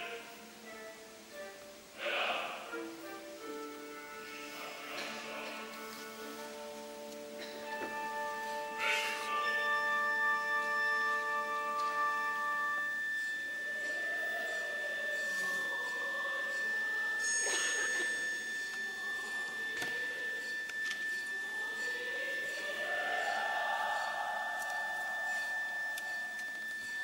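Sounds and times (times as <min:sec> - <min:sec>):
faint soft orchestral music: 0:00.0 - 0:27.0
steady high-pitched tone: 0:00.0 - 0:27.0.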